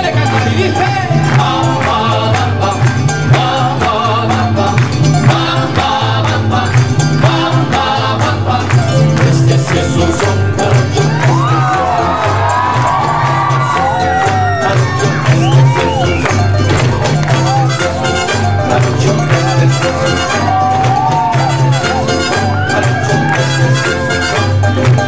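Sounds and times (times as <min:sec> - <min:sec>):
mariachi band playing: 0:00.0 - 0:25.0.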